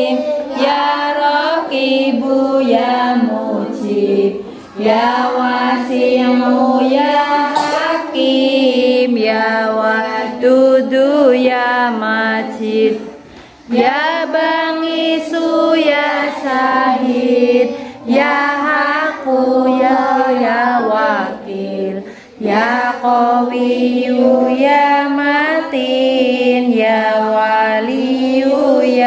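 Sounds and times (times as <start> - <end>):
children chanting a prayer: 0.0 - 29.0.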